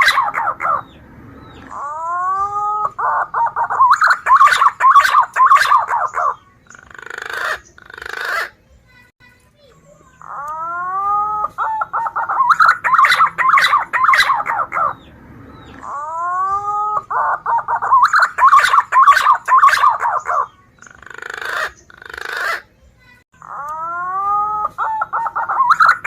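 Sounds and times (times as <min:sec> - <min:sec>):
pigeon whistling song: 0:00.0 - 0:08.5, 0:10.2 - 0:22.6, 0:23.4 - 0:26.0
hoarse rough bird noises: 0:00.0 - 0:08.6, 0:10.1 - 0:22.7, 0:23.4 - 0:26.0.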